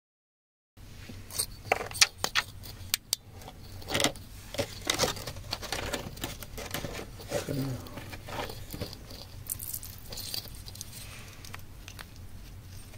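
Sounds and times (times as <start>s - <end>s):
low steady hum: 0.8s - 12.9s.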